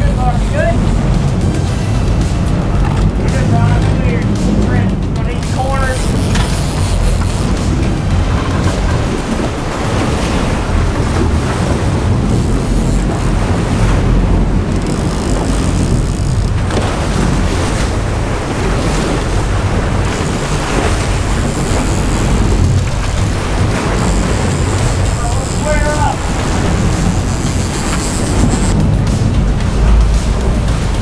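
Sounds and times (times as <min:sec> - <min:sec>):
boat engines rumbling: 0:00.0 - 0:31.0
water churning: 0:00.0 - 0:31.0
wind buffeting microphone: 0:00.0 - 0:31.0.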